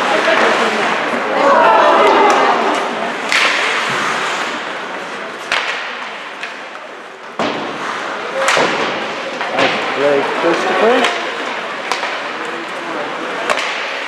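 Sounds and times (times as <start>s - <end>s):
crowd voices: 0.0s - 14.0s
puck and sticks hitting boards: 2.2s - 14.0s.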